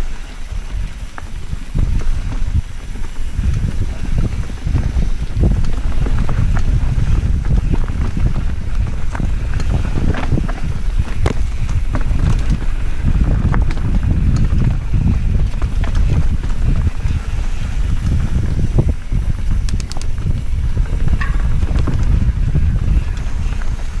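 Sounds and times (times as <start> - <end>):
bike clicks and rattles: 0.0 - 24.0
wind buffeting microphone: 0.0 - 24.0
tyre and frame rumble: 0.4 - 24.0.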